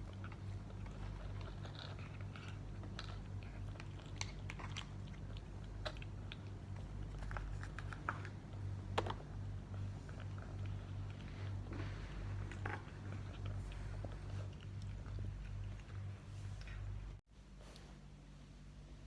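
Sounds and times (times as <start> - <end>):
cat chewing food: 0.0 - 17.2
steady low hum: 0.0 - 19.0.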